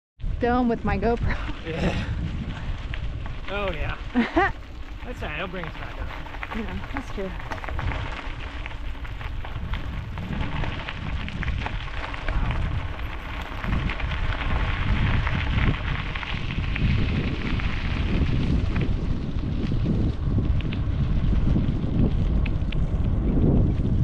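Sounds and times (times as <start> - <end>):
wind buffeting microphone: 0.2 - 24.0
tyres crackling over gravel: 0.4 - 24.0.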